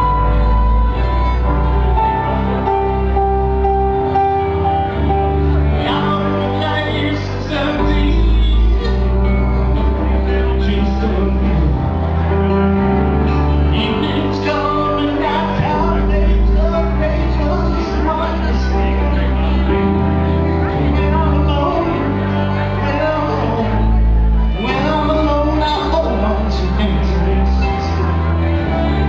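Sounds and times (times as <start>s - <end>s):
person singing: 0.0s - 29.0s
piano: 0.0s - 29.0s
upright bass: 0.0s - 29.0s
violin and bowed strings: 0.0s - 29.0s.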